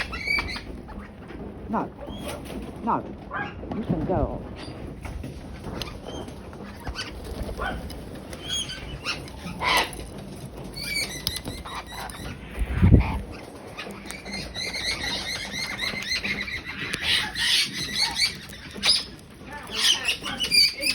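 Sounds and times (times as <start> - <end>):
small birds chirping: 0.0 - 3.7, 4.3 - 20.9.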